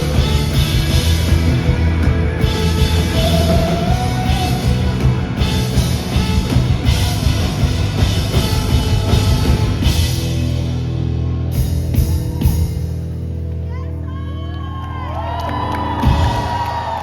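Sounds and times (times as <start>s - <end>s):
drum kit: 0.0s - 13.5s, 15.7s - 17.0s
bass guitar: 0.0s - 17.0s
electric guitars: 0.0s - 17.0s.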